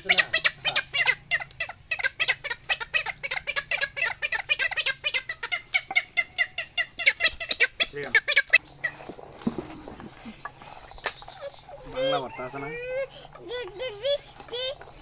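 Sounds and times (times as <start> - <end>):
rapid high-pitched animal calls: 0.0 - 15.0.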